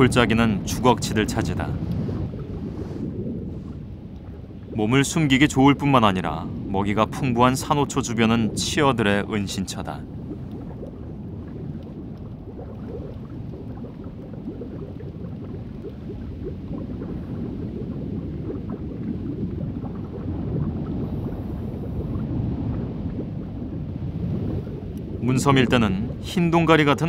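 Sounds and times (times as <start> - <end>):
underwater rumble with crackling: 0.0 - 27.0.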